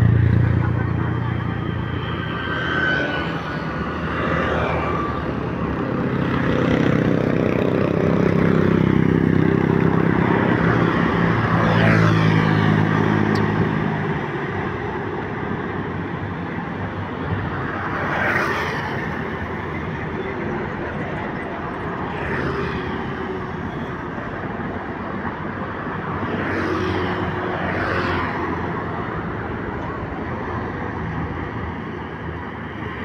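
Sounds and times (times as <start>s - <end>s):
background road traffic: 0.0s - 33.0s.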